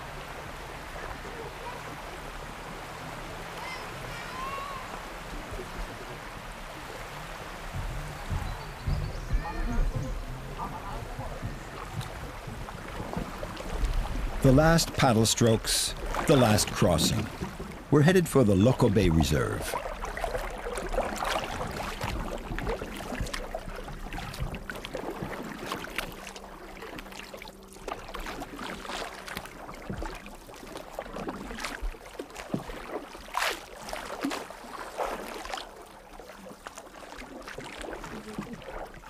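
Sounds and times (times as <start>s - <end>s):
canoe paddles splashing in water: 0.0s - 39.0s.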